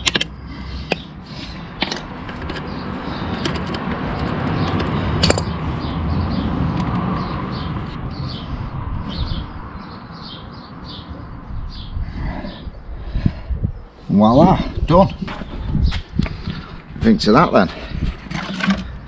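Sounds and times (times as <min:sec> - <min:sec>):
bird chirping: 0:00.0 - 0:16.8
rumbling background noise: 0:00.0 - 0:19.0.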